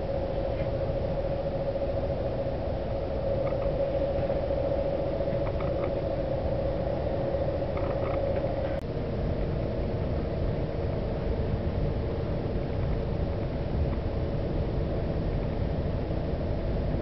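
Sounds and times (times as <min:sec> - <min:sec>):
steady hum: 0:00.0 - 0:17.0
train running gear rumble: 0:00.0 - 0:17.0.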